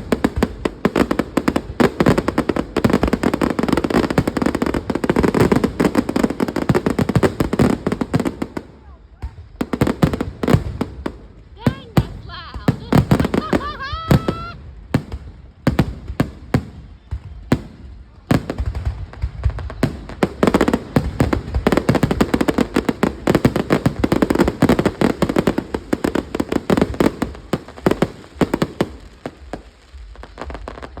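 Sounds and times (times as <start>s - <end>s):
fireworks bangs and crackle: 0.0s - 31.0s.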